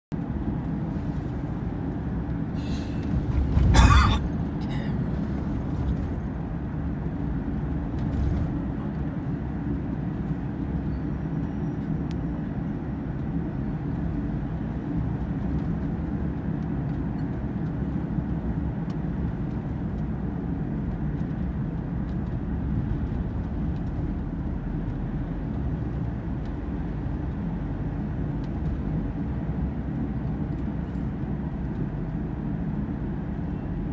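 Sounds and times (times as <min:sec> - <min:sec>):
road and engine noise in car: 0:00.1 - 0:33.9.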